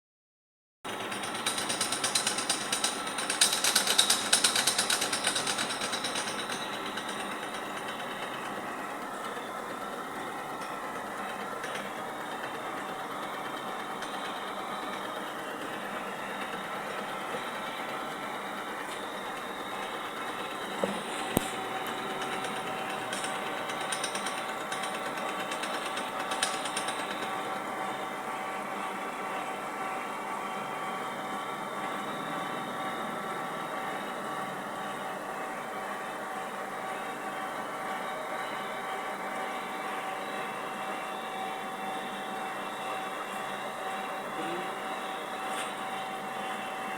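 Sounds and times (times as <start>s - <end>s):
milling machine machining metal: 0.9s - 46.9s.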